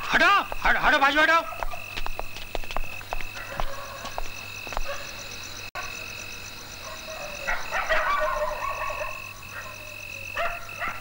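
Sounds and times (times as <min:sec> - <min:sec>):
frogs croaking in chorus: 0:00.0 - 0:11.0
high insect trill: 0:00.0 - 0:11.0.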